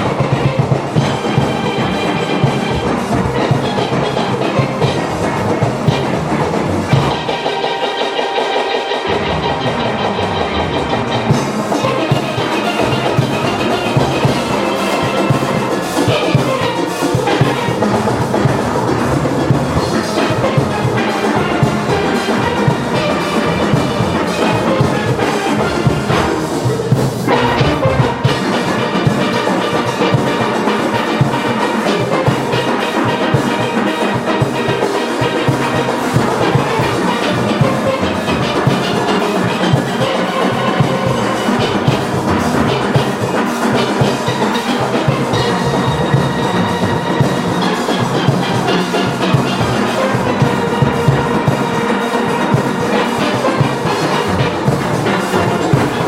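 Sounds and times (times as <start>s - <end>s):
percussion beat: 0.0s - 56.0s
steelpans playing: 0.0s - 56.0s.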